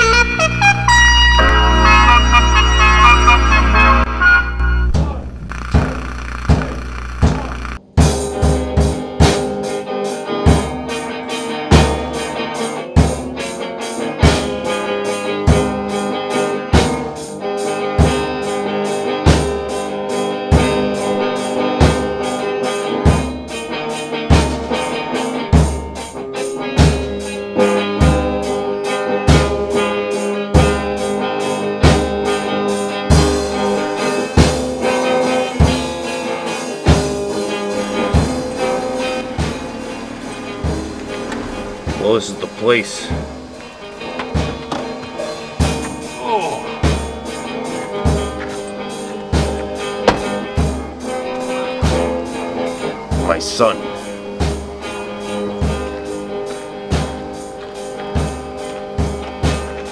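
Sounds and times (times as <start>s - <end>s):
band playing drums and guitar: 4.9s - 59.9s.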